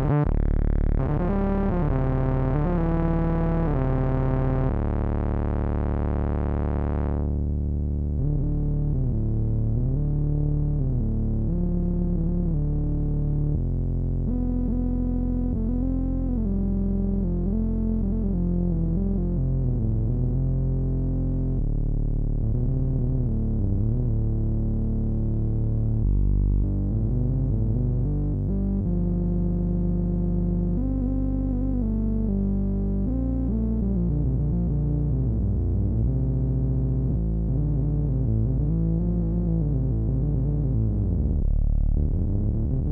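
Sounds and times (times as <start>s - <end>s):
synthesizer bass notes: 0.0s - 42.9s.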